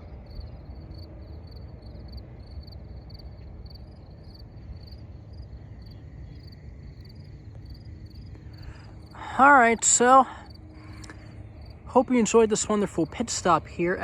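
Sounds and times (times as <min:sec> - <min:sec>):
insects chirping: 0:00.0 - 0:14.0
low outdoor rumble: 0:00.0 - 0:14.0.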